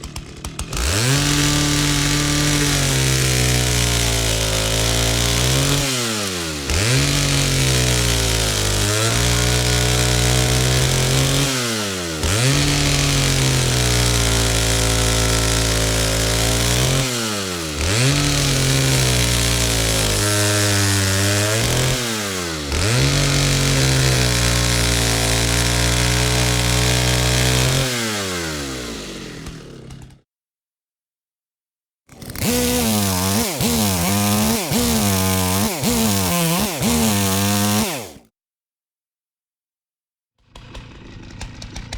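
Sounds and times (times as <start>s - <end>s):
chainsaw engine revving: 0.0s - 30.2s, 32.1s - 38.3s, 40.5s - 41.9s.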